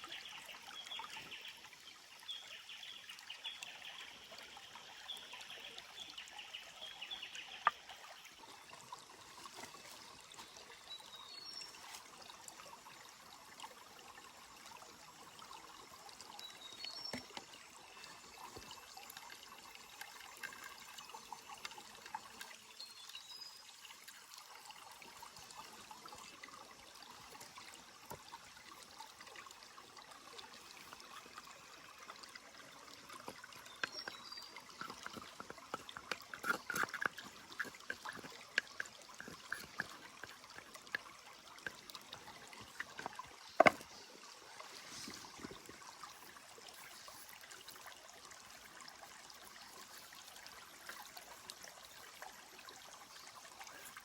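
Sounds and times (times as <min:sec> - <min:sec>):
stream trickling and gurgling: 0:00.0 - 0:54.0.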